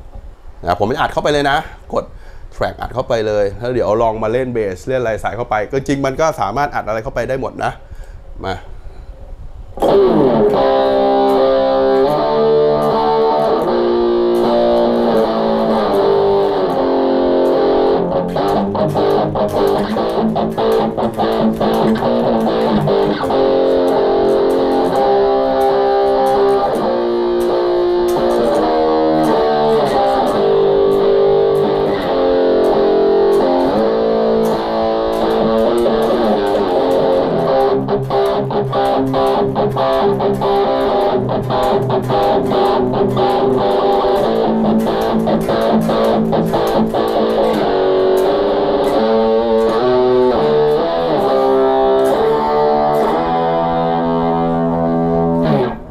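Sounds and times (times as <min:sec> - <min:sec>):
electric guitar chords: 0:09.6 - 0:55.9.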